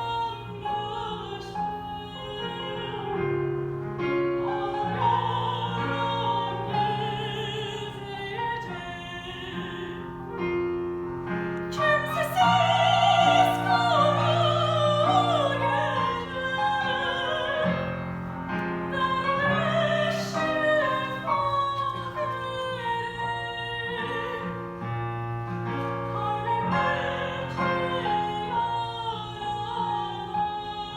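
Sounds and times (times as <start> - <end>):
piano accompaniment: 0.0 - 30.9
woman singing classical song: 0.0 - 30.9.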